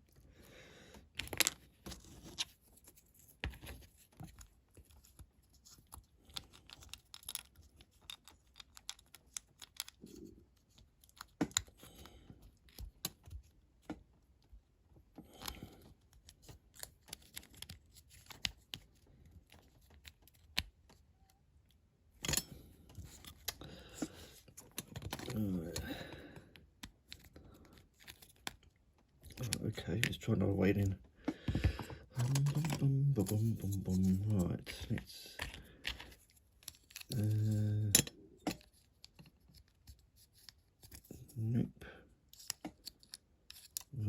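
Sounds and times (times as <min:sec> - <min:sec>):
small parts clicking and tapping: 0:00.9 - 0:14.5, 0:15.2 - 0:41.2.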